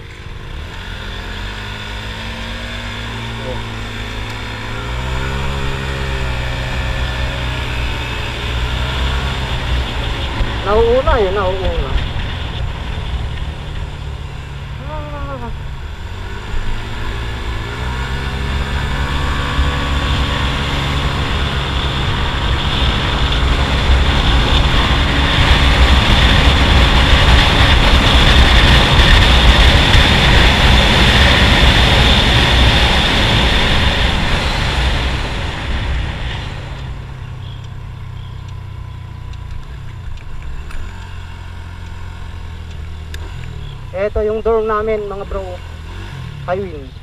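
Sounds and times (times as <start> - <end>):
scooter engine running: 0.0 - 47.0
wind and road rush on microphone: 0.0 - 47.0.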